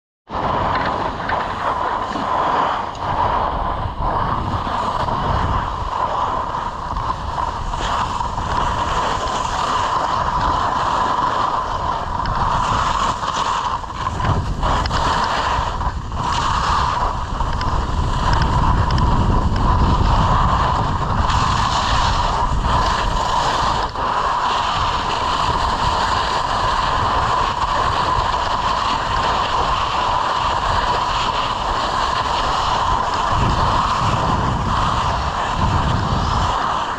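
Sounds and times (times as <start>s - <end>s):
skis sliding over packed snow: 0.3s - 36.9s
wind rushing over microphone: 0.3s - 36.9s.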